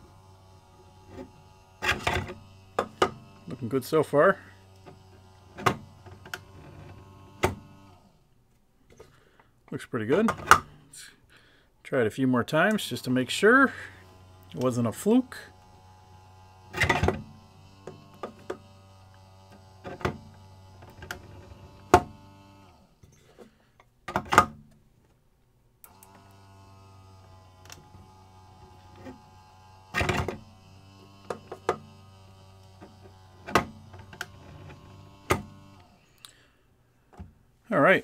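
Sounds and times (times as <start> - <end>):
small electric motor humming: 0.0 - 9.2, 12.5 - 23.6, 25.8 - 36.6.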